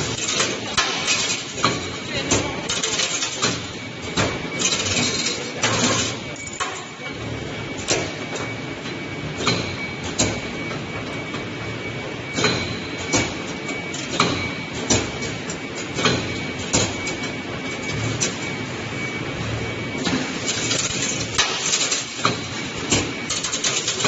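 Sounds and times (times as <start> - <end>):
steady high whine: 0.0 - 21.4.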